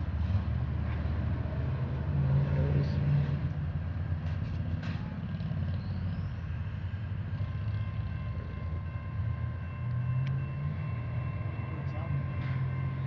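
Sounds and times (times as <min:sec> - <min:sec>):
freight train cars rolling past: 0:00.0 - 0:13.0.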